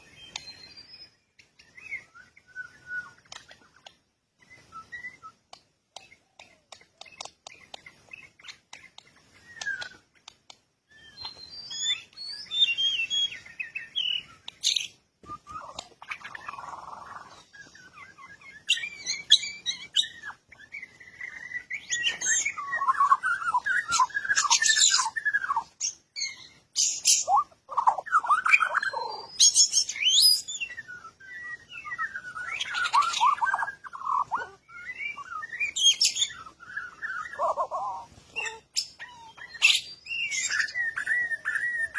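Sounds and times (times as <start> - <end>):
bird chirping and trilling: 0.0 - 41.9.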